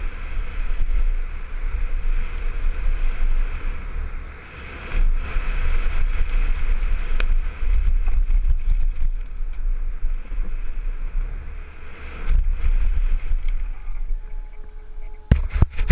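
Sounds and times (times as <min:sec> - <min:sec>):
bike tyres rumbling on gravel: 0:00.0 - 0:15.9
wind buffeting microphone: 0:00.0 - 0:15.9.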